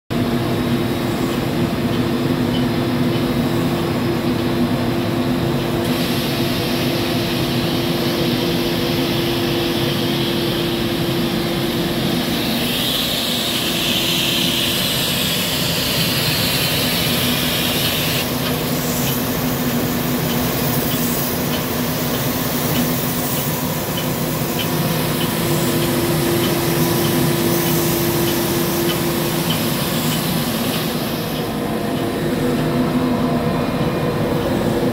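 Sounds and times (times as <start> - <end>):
hiss: 0.8 - 34.9.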